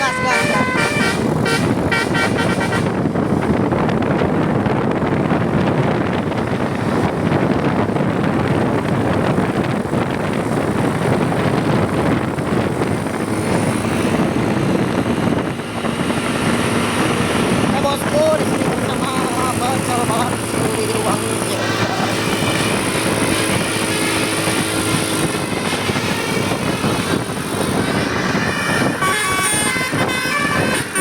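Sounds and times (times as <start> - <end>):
vehicle engine rumble: 0.0 - 31.0
wind buffeting microphone: 0.0 - 31.0.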